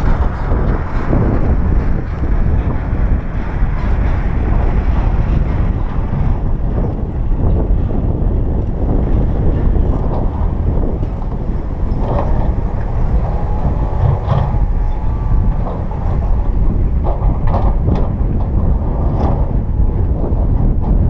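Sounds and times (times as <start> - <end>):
diesel excavator engine rumbling: 0.0 - 21.0.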